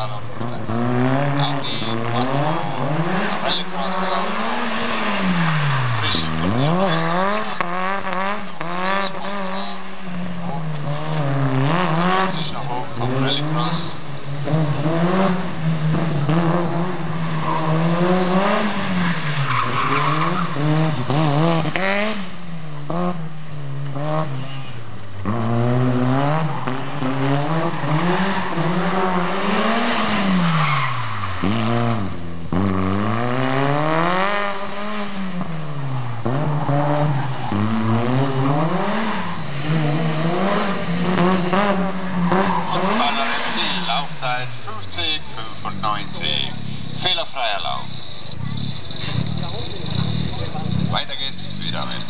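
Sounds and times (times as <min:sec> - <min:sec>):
car engine revving hard: 0:00.0 - 0:52.0.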